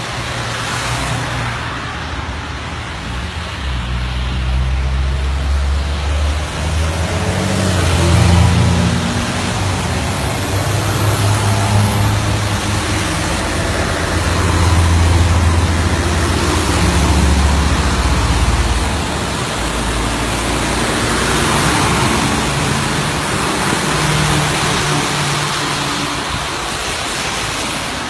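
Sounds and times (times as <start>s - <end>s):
trucks passing close by: 0.0s - 28.0s
tyres hissing on wet road: 0.0s - 28.0s.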